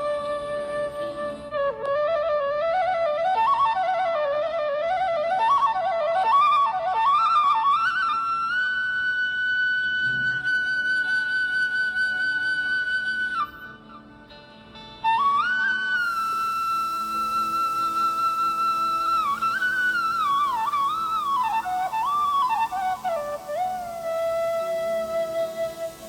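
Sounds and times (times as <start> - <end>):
wind instrument melody: 0.0 - 14.4, 15.0 - 26.0.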